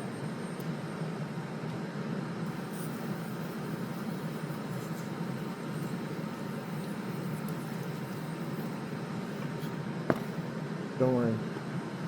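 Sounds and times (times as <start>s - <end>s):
mechanical running noise: 0.0s - 1.6s, 2.5s - 10.7s.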